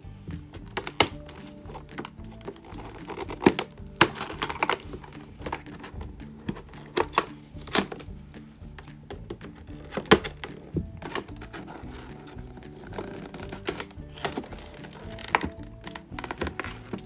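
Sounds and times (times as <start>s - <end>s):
background music: 0.0s - 17.0s
clicks from cardboard box handling: 0.6s - 8.1s, 8.8s - 17.0s.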